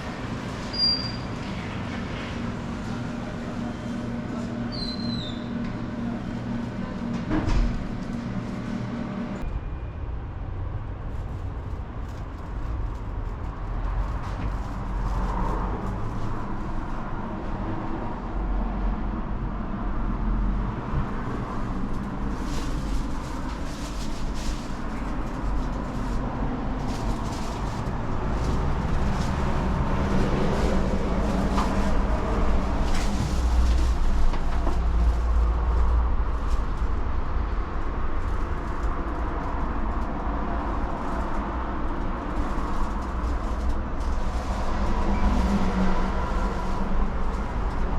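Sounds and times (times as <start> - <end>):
clicks and rattles of train: 0.0 - 9.6, 10.3 - 18.9, 20.6 - 47.9
train rumbling on rails: 0.0 - 47.9.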